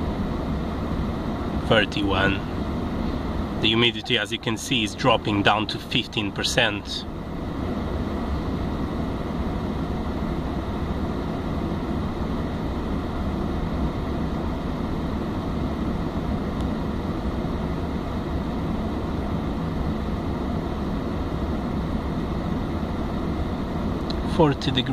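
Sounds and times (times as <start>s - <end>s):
car blower fan blowing air: 0.0s - 24.9s
faint steady whine: 0.0s - 24.9s.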